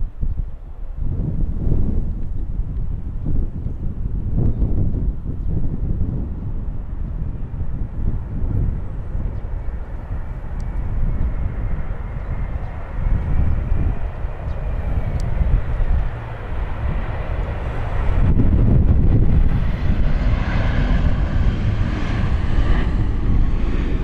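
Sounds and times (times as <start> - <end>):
airliner engine noise: 0.0 - 24.0
wind rumble on microphone: 0.0 - 24.0.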